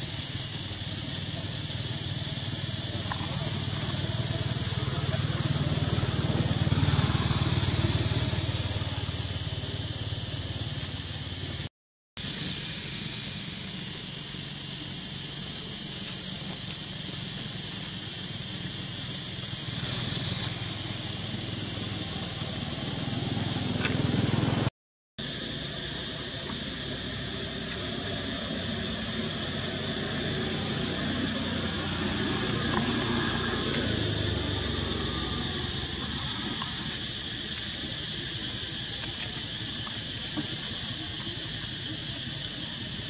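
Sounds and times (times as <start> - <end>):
cicadas buzzing: 0.0 - 43.0.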